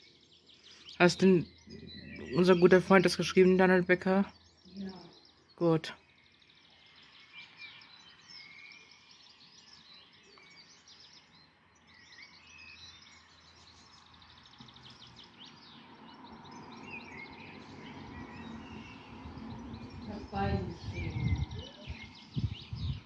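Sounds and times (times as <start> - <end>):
songbirds singing and chirping: 0.0 - 23.0.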